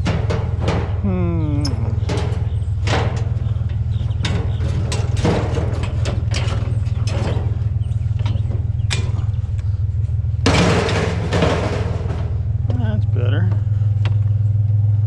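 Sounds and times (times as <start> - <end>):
scrap metal clanking: 0.0 - 12.9
vehicle engine idling: 0.0 - 15.0.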